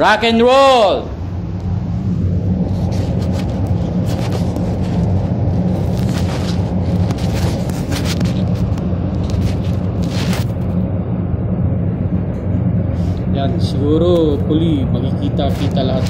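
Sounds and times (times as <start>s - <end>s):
air system low rumble: 0.0s - 16.0s.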